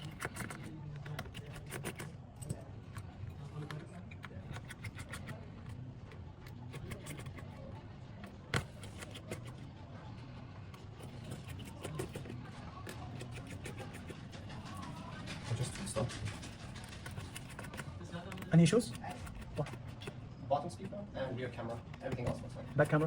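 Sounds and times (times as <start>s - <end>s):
murmur of background voices: 0.0s - 23.0s.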